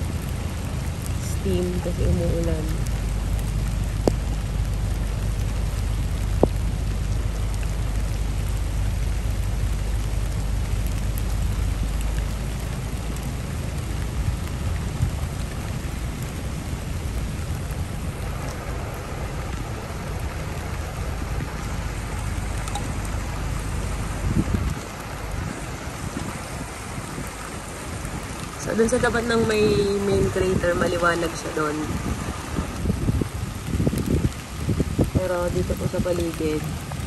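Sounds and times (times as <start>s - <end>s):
low rumble: 0.0s - 37.0s
steady rain falling: 0.0s - 37.0s.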